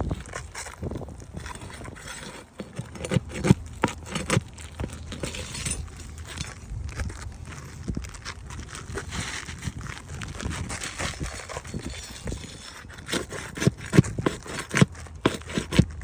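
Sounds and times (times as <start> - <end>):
hand tools scraping shingles: 0.0 - 16.0.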